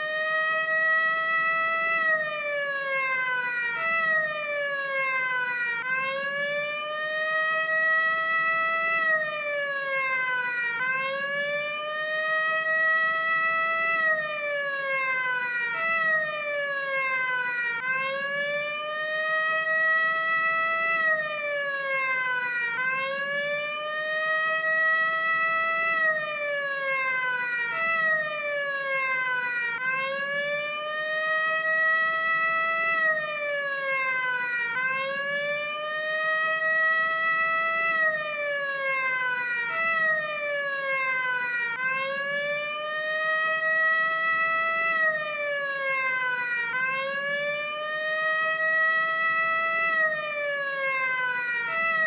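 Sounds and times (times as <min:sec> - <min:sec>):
police siren wailing: 0:00.0 - 0:52.0.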